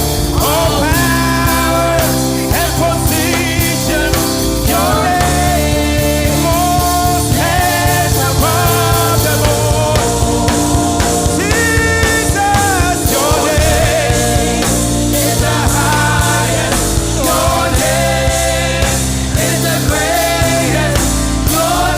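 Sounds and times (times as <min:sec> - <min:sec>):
gospel praise song with band: 0:00.0 - 0:21.9
person singing: 0:00.0 - 0:21.9
steady drum beat: 0:00.0 - 0:21.9
sustained bass: 0:00.0 - 0:21.9.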